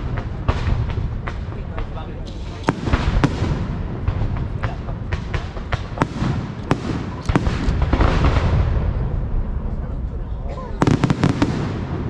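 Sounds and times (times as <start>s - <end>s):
fireworks bangs: 0.0s - 9.7s, 10.8s - 12.0s.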